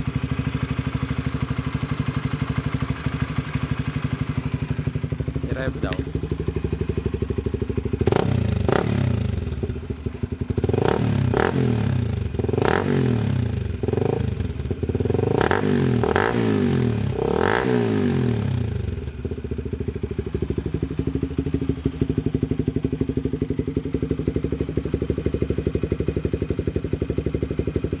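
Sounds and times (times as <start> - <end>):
motorcycle engine idling: 0.0 - 28.0
motorcycle engine revving: 0.0 - 28.0.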